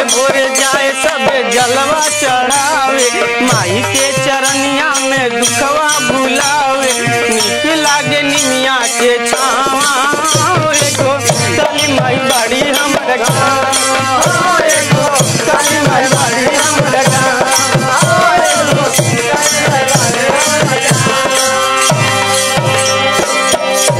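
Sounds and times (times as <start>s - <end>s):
dholak drum beat: 0.0s - 23.9s
harmonium melody: 0.0s - 23.9s
jingling hand percussion: 0.0s - 23.9s.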